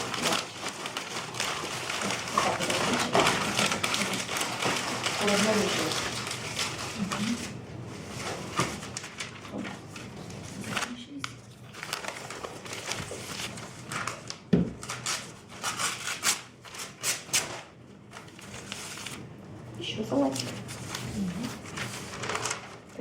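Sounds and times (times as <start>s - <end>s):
paper rustling and crinkling: 0.0s - 19.3s, 20.0s - 23.0s.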